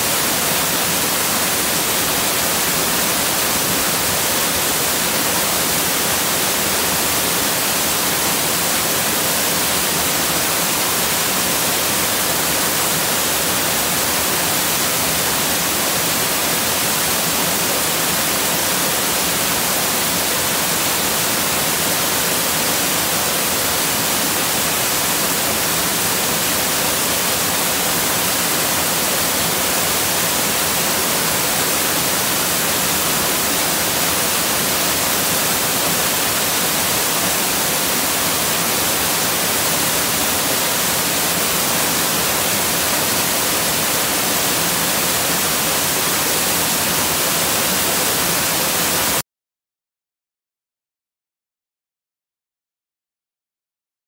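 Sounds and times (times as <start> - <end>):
waterfall splashing into pool: 0.0 - 49.2.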